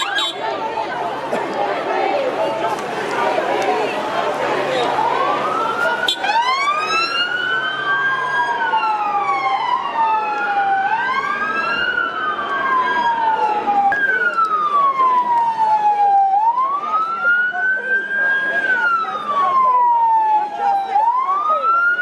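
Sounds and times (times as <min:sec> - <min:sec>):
police sirens wailing: 0:00.0 - 0:22.0.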